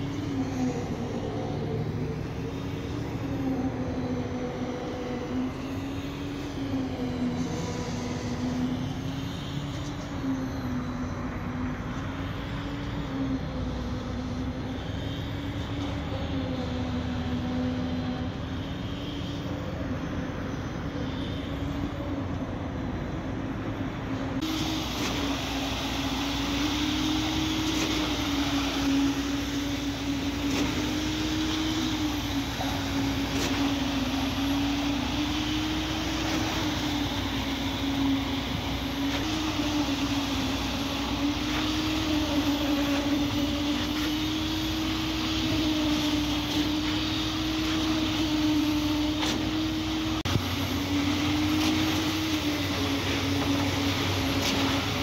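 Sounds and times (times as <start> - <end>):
diesel engine running at high revs: 0.0 - 55.0.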